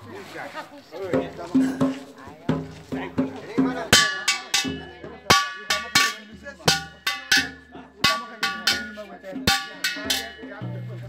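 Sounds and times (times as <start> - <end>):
drum beating: 0.9 - 11.0
metallic percussion strikes: 1.1 - 11.0.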